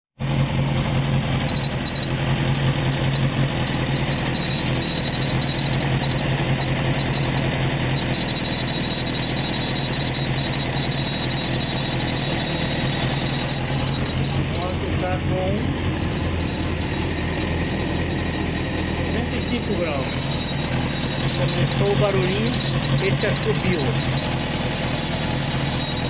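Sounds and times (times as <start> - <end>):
motorcycle engine idling: 0.2 - 26.0
high thin whistle: 1.4 - 26.0.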